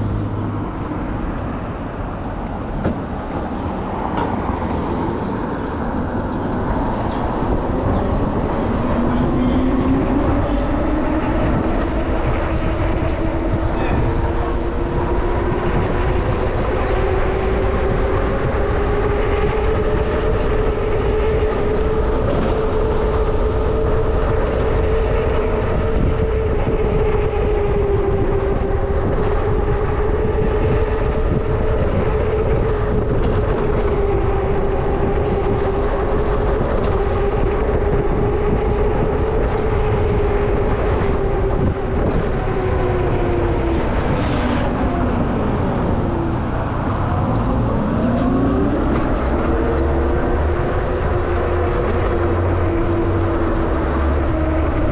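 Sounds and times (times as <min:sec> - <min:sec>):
vehicle rumble and rushing noise: 0:00.0 - 0:54.9.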